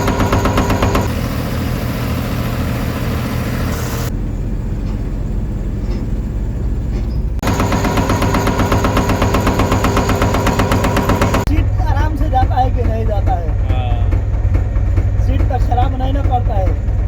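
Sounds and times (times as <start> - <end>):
engine drone: 0.0 - 17.0
pile driver pulsing rattle: 0.0 - 17.0.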